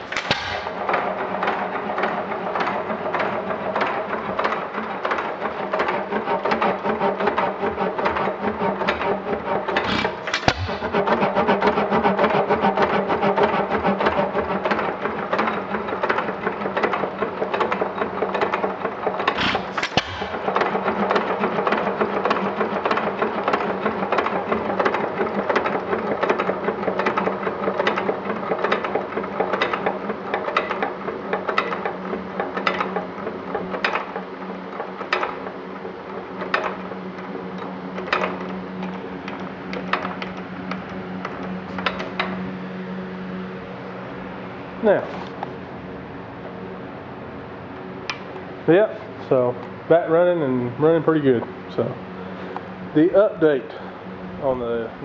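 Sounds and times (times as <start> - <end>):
engine mechanical clatter: 0.0 - 55.0
engine sharp beats: 0.0 - 55.0.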